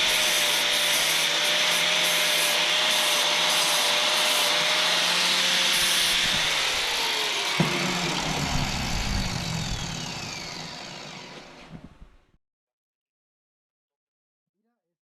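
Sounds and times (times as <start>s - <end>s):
power tool whine winding down: 0.0s - 12.2s.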